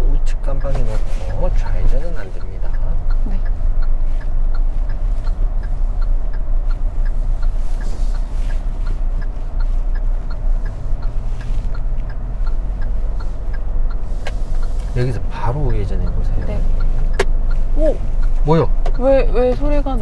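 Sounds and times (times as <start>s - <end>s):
engine and tyre hum: 0.0s - 20.0s
turn signal ticking: 0.0s - 20.0s.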